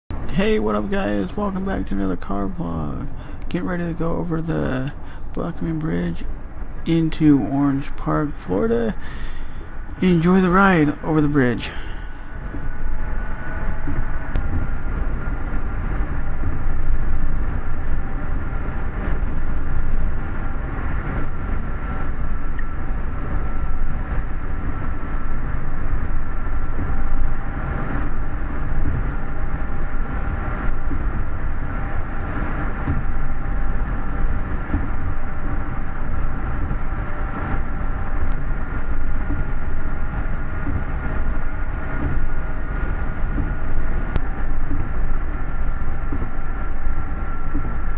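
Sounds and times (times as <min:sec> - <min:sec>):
faint steady whine: 0:00.1 - 0:47.9
car road noise from inside: 0:00.2 - 0:47.9.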